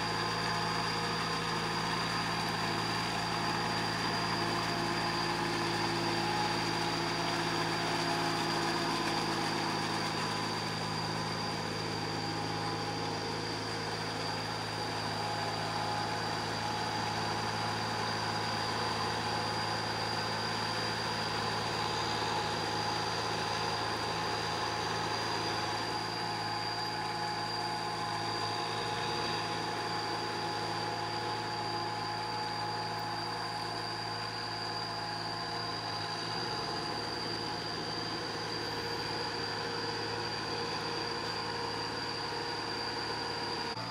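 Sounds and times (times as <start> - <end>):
diesel tractor engine running: 0.0 - 43.9.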